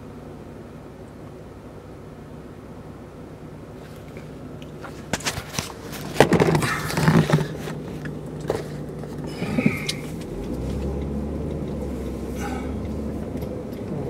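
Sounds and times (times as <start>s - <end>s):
car hum: 0.0s - 14.0s.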